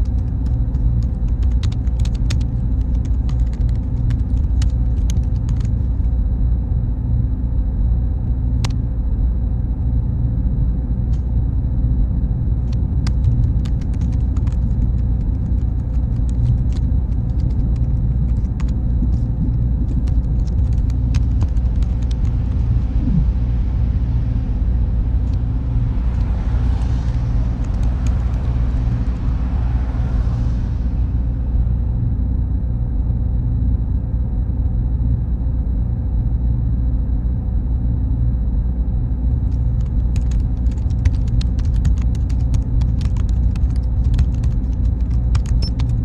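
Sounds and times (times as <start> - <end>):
cooling fans humming: 0.0 - 34.0, 38.8 - 46.0
high-pitched whine: 4.7 - 46.0.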